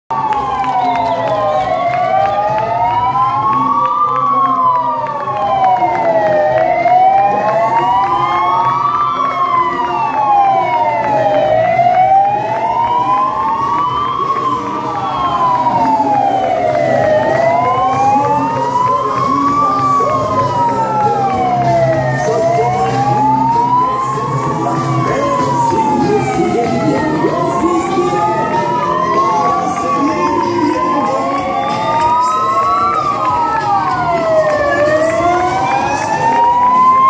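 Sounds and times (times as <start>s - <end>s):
emergency sirens wailing: 0.1s - 37.0s.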